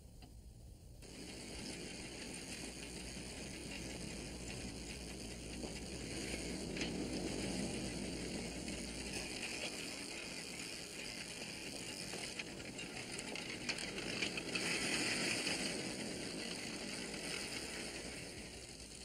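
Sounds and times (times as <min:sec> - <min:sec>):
steady hiss: 0:00.0 - 0:19.0
bicycle ratcheting ticks: 0:01.0 - 0:19.0.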